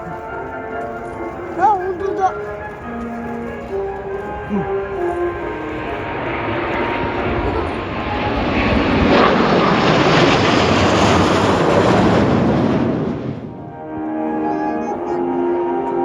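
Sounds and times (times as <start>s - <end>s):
jet flyby: 0.0s - 16.0s.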